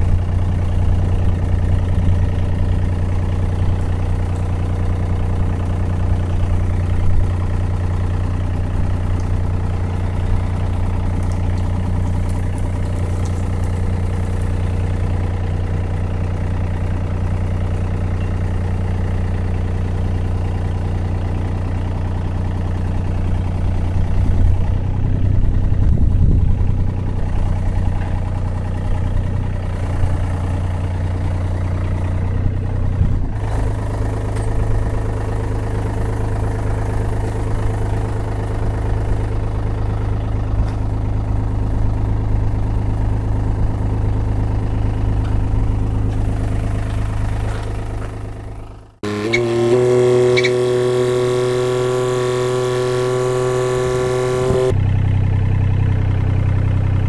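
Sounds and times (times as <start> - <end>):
excavator diesel engine idling: 0.0 - 57.0.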